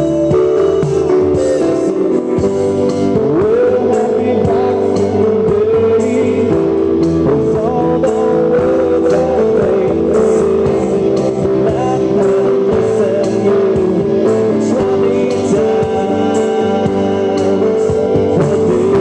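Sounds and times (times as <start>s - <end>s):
live blues-rock band: 0.0s - 19.0s
sliding lead guitar line: 0.0s - 19.0s.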